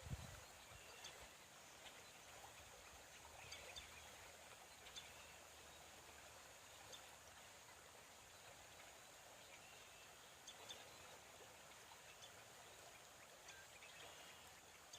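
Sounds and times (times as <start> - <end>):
creek water flowing: 0.0 - 14.9.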